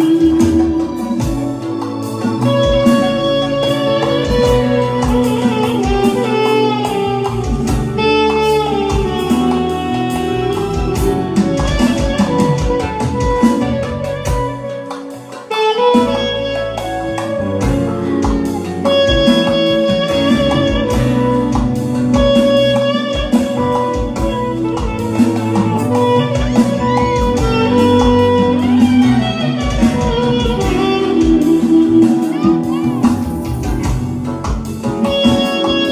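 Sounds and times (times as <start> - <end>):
bass: 0.0 - 35.9
drum beat: 0.0 - 35.9
electric guitar melody: 0.0 - 35.9.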